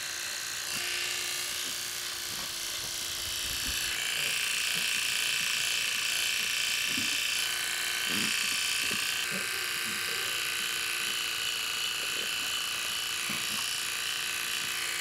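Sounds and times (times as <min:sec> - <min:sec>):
electric clippers humming: 0:00.0 - 0:15.0.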